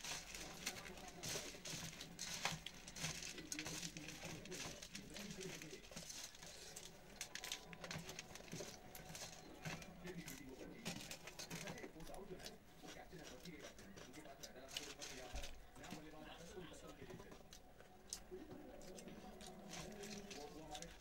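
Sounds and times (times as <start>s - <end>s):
chewing: 0.0s - 21.0s.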